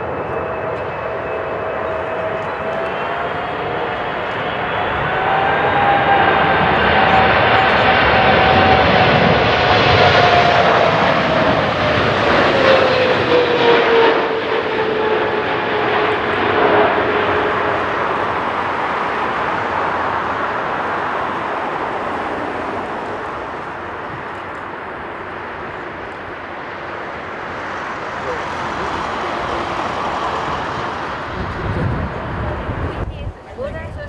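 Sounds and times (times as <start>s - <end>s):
jet engine whine: 0.0s - 34.0s
jet roar: 0.0s - 34.0s.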